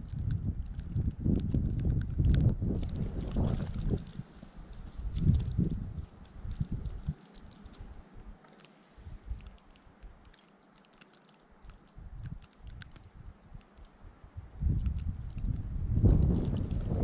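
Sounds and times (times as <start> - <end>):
wind rumbling on microphone: 0.0 - 8.4, 9.0 - 10.3, 11.6 - 17.0
snowstorm wind hiss: 0.0 - 10.3, 11.6 - 17.0
ticks of blown snow: 0.0 - 17.0.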